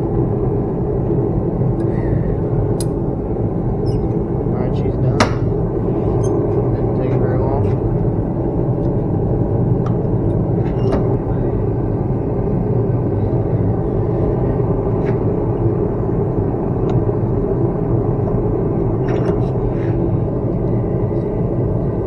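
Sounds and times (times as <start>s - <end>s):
forge rumbling: 0.0s - 22.0s.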